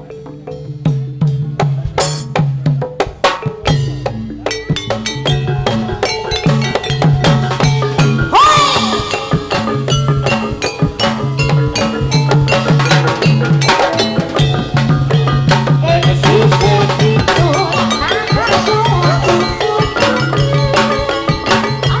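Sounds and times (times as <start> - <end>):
gamelan music through sound system: 0.0 - 22.0.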